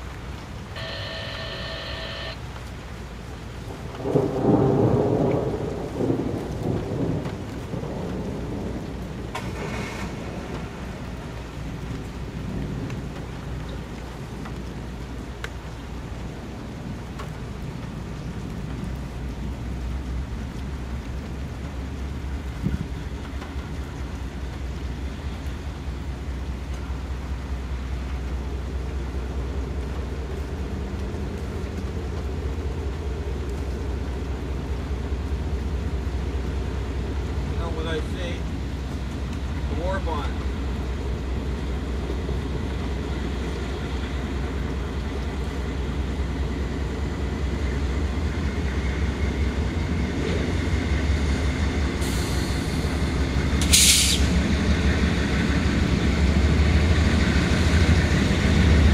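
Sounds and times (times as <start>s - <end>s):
steady rain: 0.0s - 58.9s
thunder rumbling: 0.0s - 58.9s.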